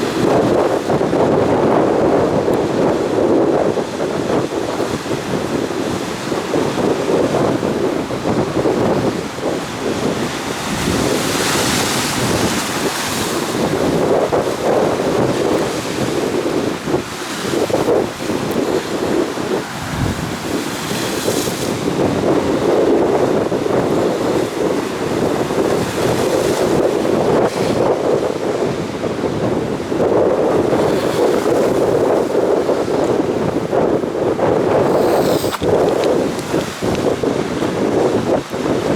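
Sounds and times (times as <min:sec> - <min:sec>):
surf breaking and washing: 0:00.0 - 0:38.9
wind buffeting microphone: 0:00.0 - 0:38.9.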